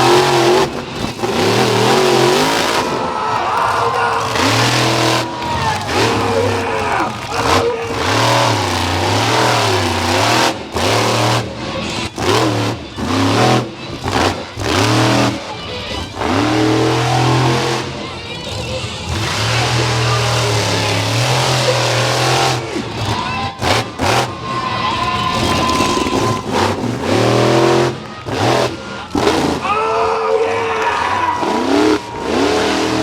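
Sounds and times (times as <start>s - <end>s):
truck engine revving hard: 0.0s - 29.8s, 30.8s - 33.0s.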